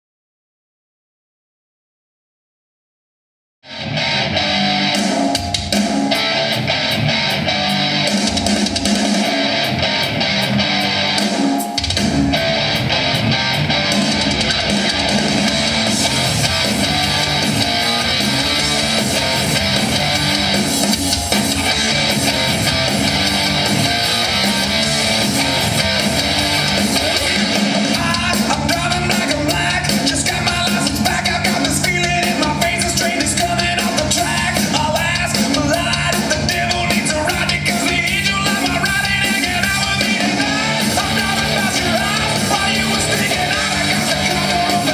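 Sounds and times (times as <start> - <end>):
band music: 3.7 - 44.9
repeating bass line: 3.7 - 44.9.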